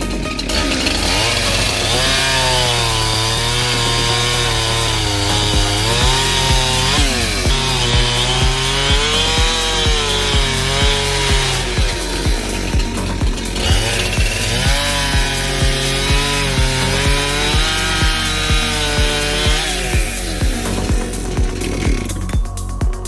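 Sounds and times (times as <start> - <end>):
chainsaw cutting log: 0.0 - 22.6
music beat: 0.0 - 23.0.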